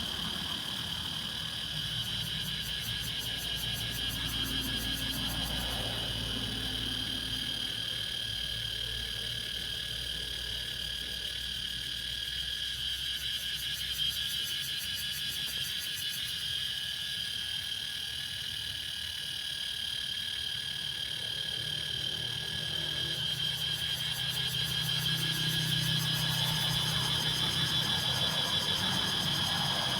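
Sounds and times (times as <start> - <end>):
cicadas buzzing: 0.0 - 29.9.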